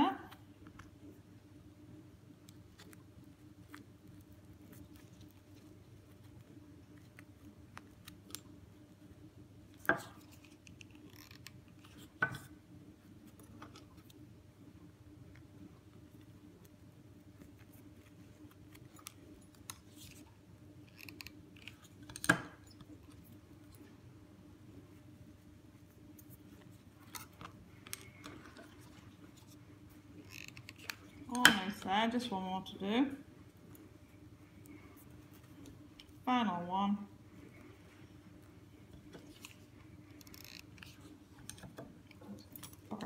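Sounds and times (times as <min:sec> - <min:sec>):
low room hum: 0:00.0 - 0:43.0.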